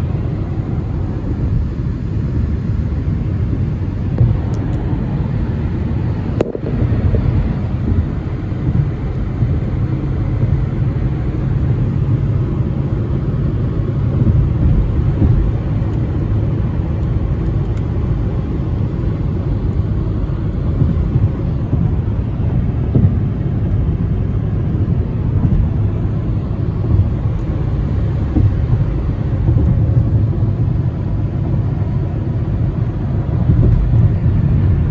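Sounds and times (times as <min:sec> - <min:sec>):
car driving low rumble: 0:00.0 - 0:34.9.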